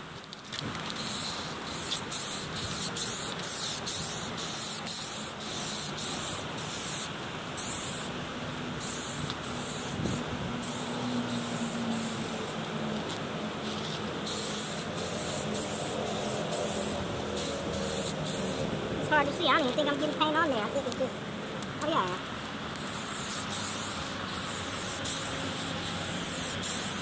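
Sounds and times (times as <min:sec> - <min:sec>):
aerosol spray can hissing: 0:00.4 - 0:08.2, 0:08.8 - 0:18.7, 0:22.0 - 0:27.0.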